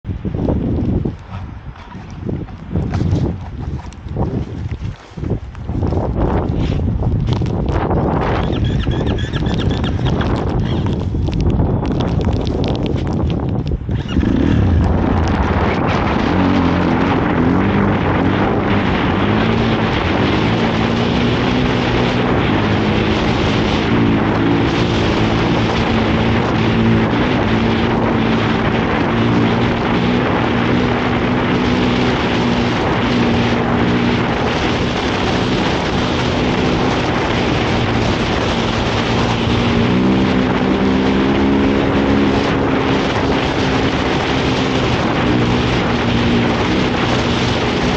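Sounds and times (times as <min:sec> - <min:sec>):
snowbike engine running under load: 0:06.5 - 0:47.9.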